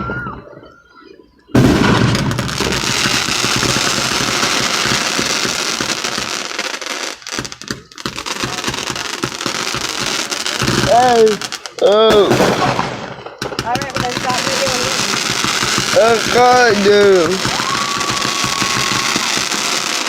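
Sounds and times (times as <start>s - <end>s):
fireworks crackling: 1.5s - 20.0s.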